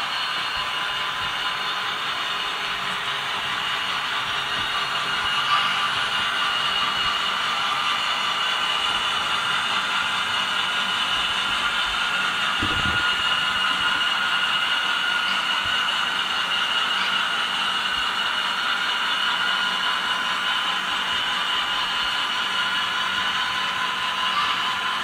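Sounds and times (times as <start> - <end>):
model train cars rolling on track: 0.0 - 25.0.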